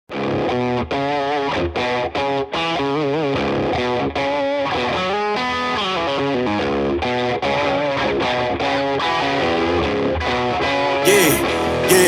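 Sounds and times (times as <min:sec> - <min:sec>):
distorted electric guitar song: 0:00.1 - 0:12.0.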